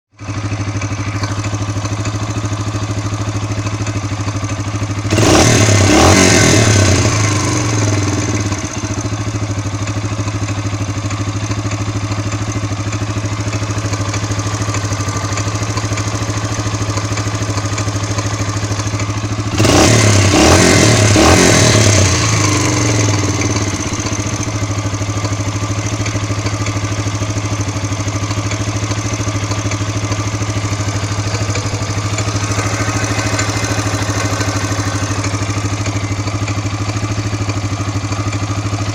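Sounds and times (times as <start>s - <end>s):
engine idling and revving: 0.1s - 38.9s
engine knock: 0.1s - 38.9s.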